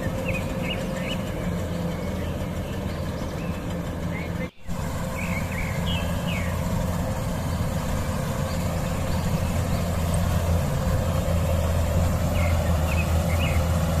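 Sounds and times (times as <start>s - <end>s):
combine harvester engine droning: 0.0s - 14.0s.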